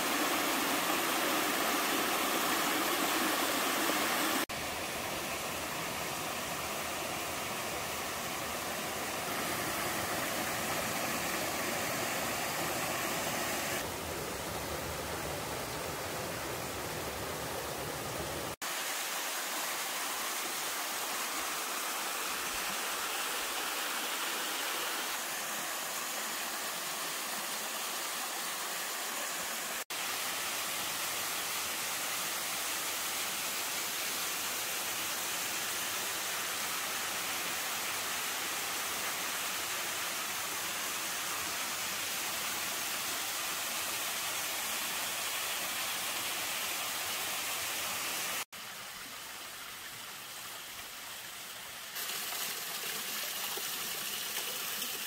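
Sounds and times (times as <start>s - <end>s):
stream rushing over boulders: 0.0s - 55.0s
waterfall: 0.0s - 55.0s.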